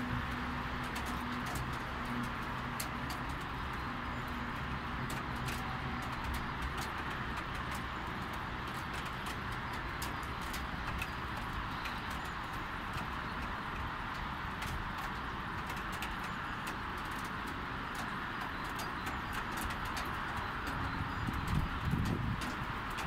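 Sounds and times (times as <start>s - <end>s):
raindrops ticking on hard surface: 0.0s - 23.0s.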